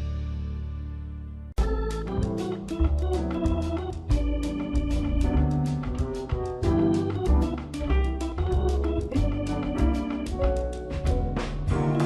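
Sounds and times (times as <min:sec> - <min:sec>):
organ chords: 0:00.1 - 0:12.0
drum beat: 0:01.6 - 0:12.0.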